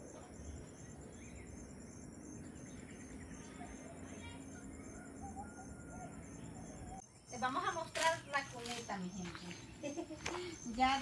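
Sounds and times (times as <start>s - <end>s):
birds chirping: 0.0s - 11.0s
high pulsing insect sound: 0.0s - 11.0s.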